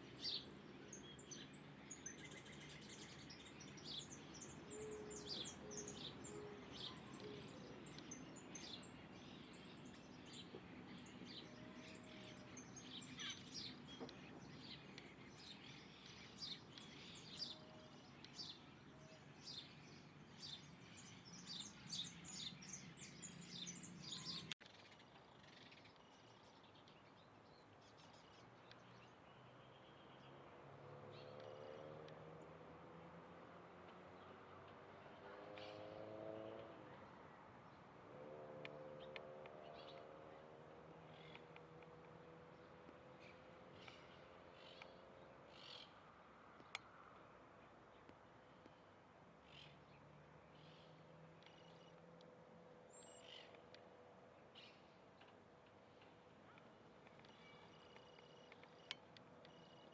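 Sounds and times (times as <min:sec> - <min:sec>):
wild birds chirping: 0:00.0 - 0:59.9.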